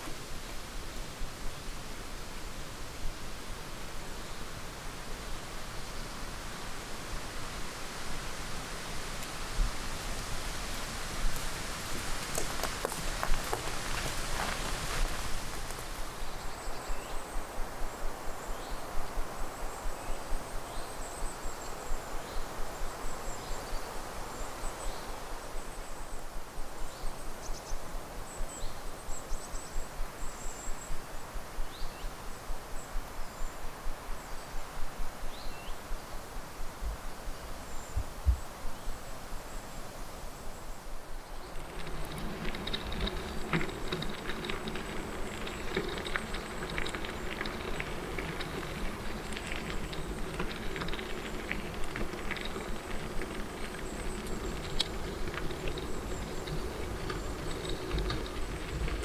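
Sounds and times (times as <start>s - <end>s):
small birds chirping: 4.0s - 26.2s, 26.8s - 59.0s
rustling crunch on forest path: 6.7s - 59.0s.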